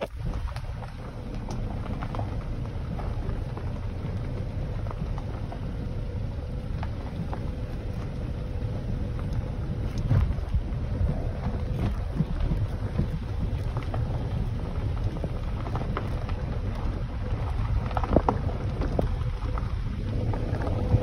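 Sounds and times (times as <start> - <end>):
tyres rolling over gravel: 0.0 - 21.0.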